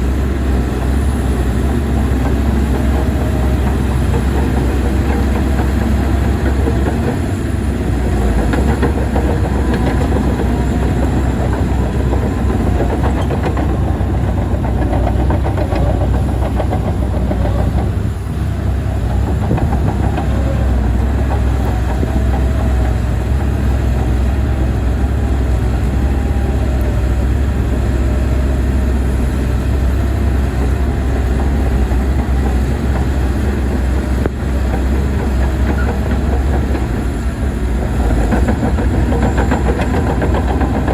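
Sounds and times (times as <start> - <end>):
diesel engine under load: 0.0 - 40.9
steel tracks clanking: 0.0 - 40.9.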